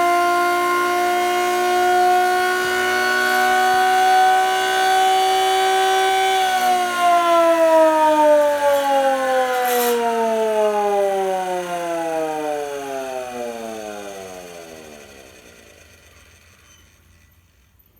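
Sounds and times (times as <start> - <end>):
siren winding down: 0.0 - 16.6.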